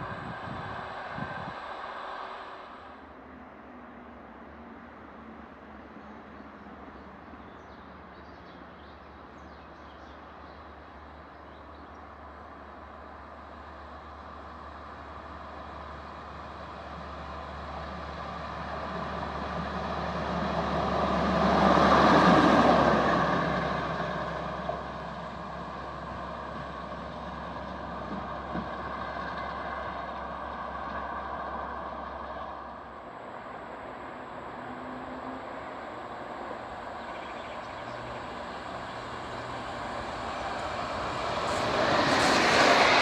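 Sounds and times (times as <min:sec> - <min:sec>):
rail motor trolley passing: 0:00.0 - 0:43.0.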